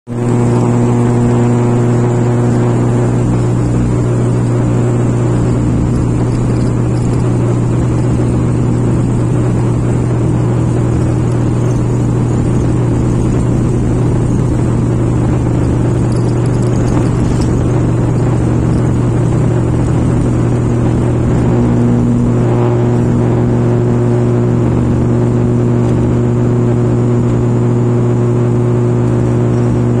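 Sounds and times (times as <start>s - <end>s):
turboprop engines droning: 0.1s - 30.0s.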